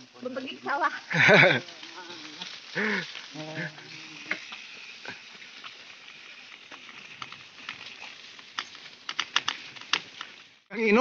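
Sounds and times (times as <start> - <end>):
bicycle tyres hissing on gravel: 0.0 - 11.0.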